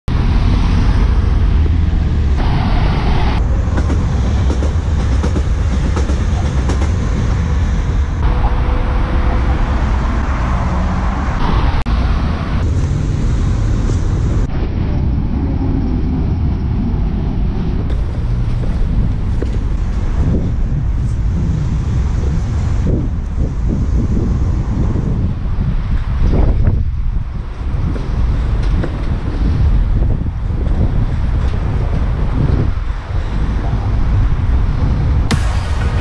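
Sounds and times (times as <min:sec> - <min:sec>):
train wheels rumbling on rails: 0:00.1 - 0:36.0.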